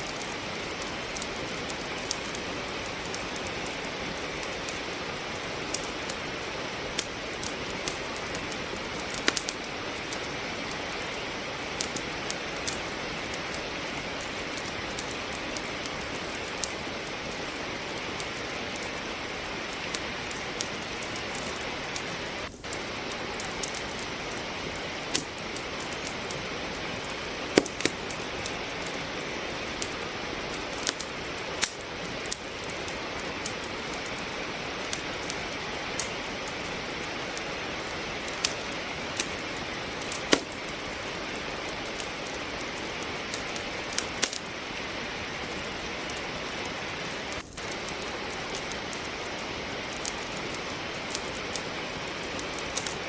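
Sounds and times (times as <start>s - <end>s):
steady rain falling: 0.0s - 53.0s
wood fire crackling: 0.0s - 53.0s.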